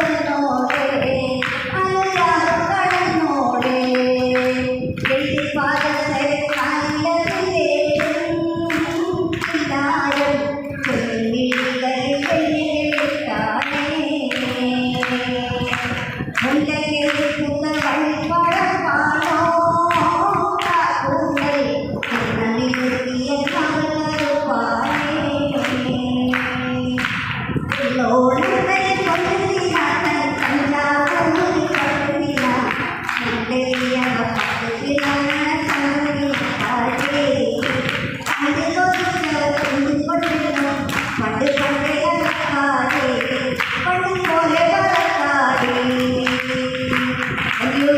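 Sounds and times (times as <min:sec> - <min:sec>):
woman singing: 0:00.0 - 0:47.9.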